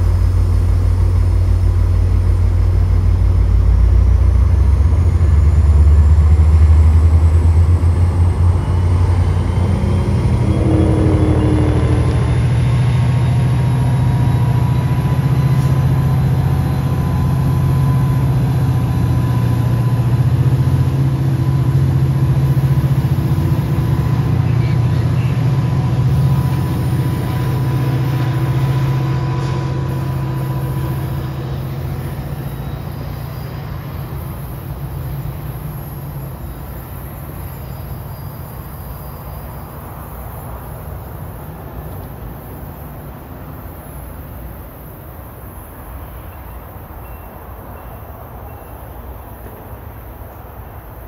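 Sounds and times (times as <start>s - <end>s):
diesel train engine drone: 0.0s - 51.0s.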